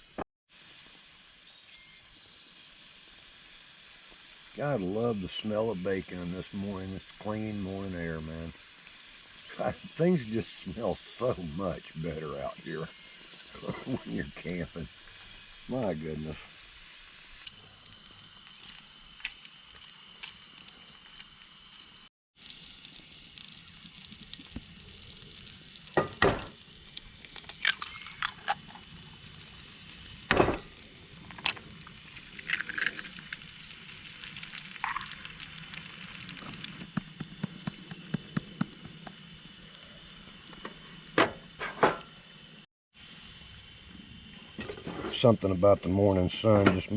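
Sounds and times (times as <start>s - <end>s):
food sizzling in a frying pan: 0.0s - 46.9s.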